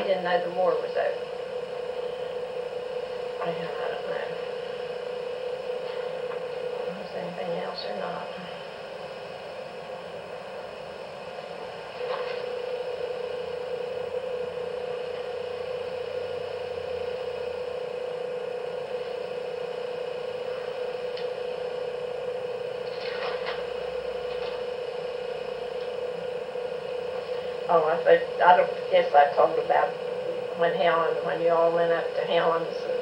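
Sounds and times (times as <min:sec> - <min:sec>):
steady mid-pitched tone: 0:00.0 - 0:33.0.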